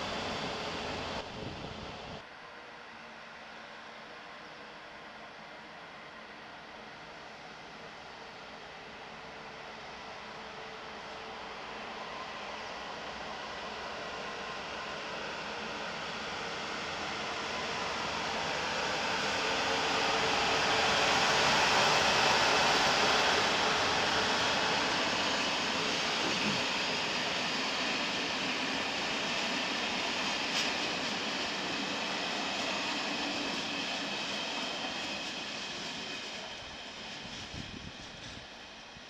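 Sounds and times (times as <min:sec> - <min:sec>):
train wheels rushing on rails: 0:00.0 - 0:02.2, 0:07.0 - 0:39.0.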